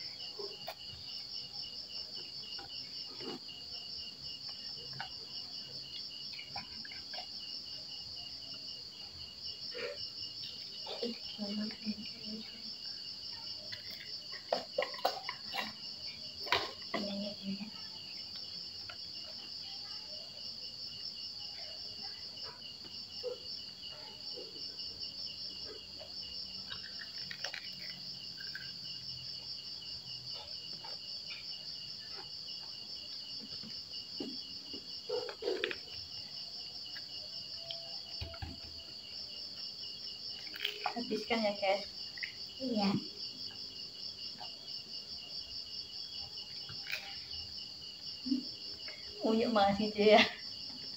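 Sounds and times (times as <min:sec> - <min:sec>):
children eating: 0:00.0 - 0:49.4
insects trilling: 0:00.0 - 0:50.9.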